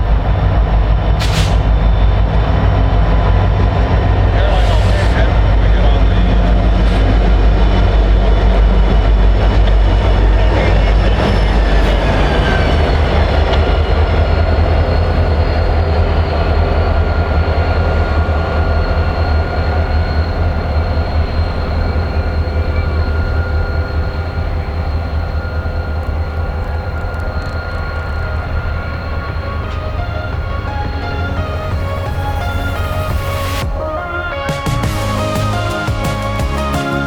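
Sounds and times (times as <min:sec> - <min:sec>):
train rolling by: 0:00.0 - 0:37.0.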